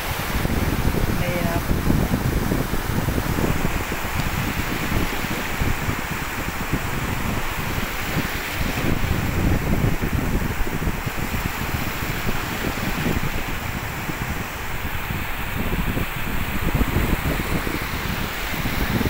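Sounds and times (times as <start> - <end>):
sea noise: 0.0 - 19.0
wind buffeting microphone: 0.0 - 19.0.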